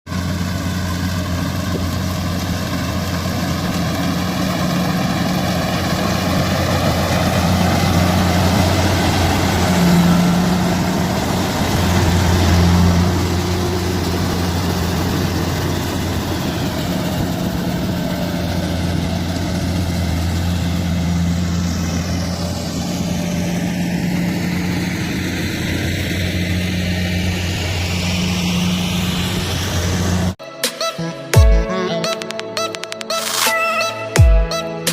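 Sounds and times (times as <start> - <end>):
combine harvester diesel engine: 0.1 - 30.4.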